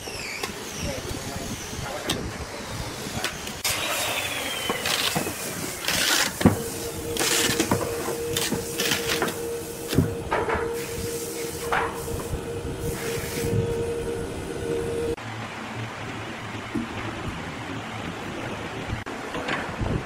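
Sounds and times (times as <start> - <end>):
steady hum: 0.6 - 19.2.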